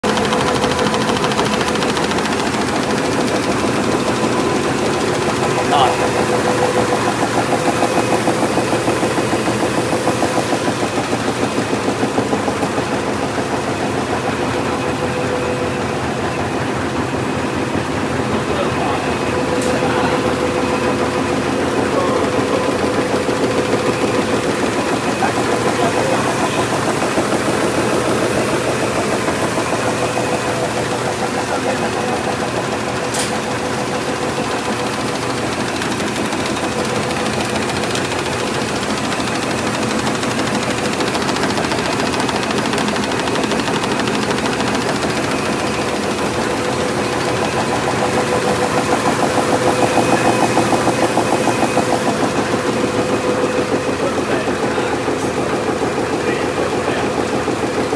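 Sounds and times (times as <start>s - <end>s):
die-cutting machine stamping: 0.0s - 14.6s, 19.4s - 54.1s
machine hum: 0.0s - 57.9s.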